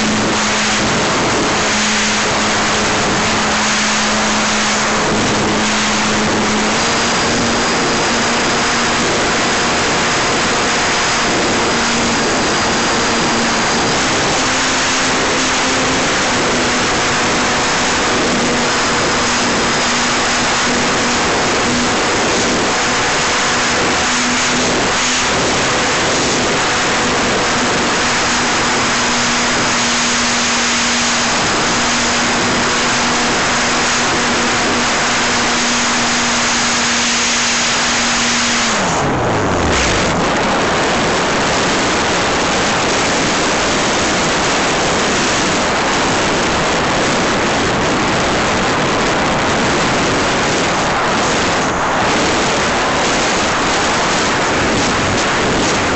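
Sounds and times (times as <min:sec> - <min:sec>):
aircraft motor humming: 0:00.0 - 0:55.9
wind rush over microphone: 0:00.0 - 0:55.9.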